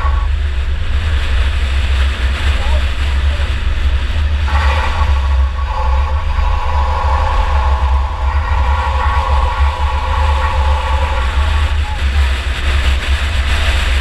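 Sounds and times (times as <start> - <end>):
race car engine rumble: 0.0 - 14.0
steady higher engine tone: 0.0 - 14.0.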